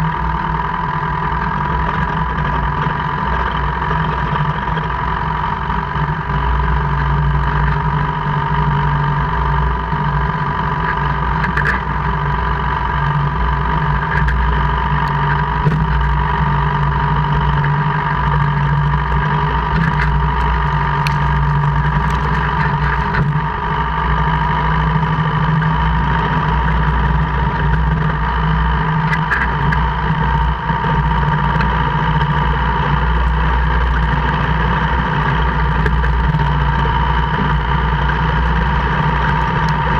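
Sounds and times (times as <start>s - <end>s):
mechanical whine: 0.0s - 39.9s.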